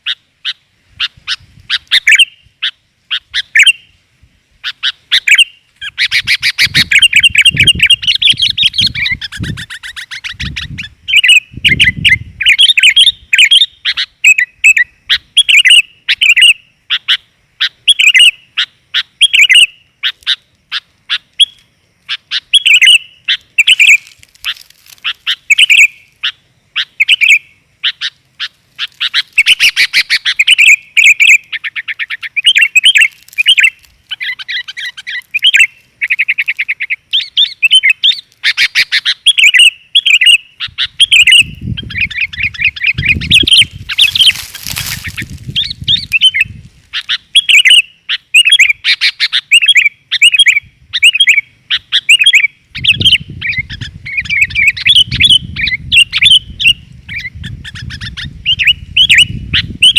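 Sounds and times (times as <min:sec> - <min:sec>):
bulbul chirping and trilling: 0:00.0 - 0:03.9, 0:04.6 - 0:59.9.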